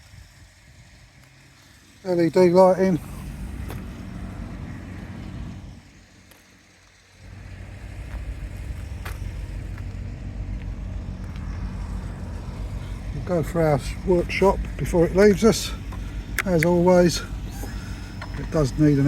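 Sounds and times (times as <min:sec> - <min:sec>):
motorcycle engine idling: 0:00.2 - 0:19.0.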